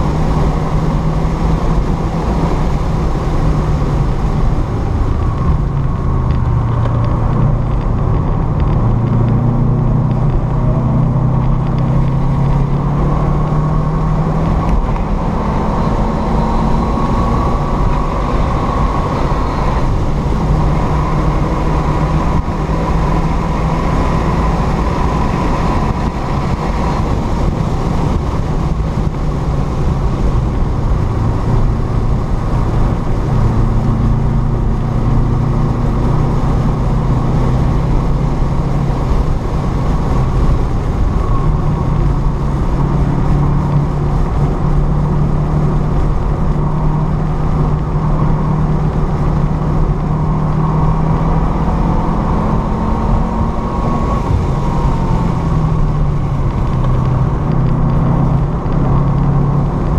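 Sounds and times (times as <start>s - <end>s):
car engine revving: 0.0s - 59.9s
wind noise: 0.0s - 59.9s.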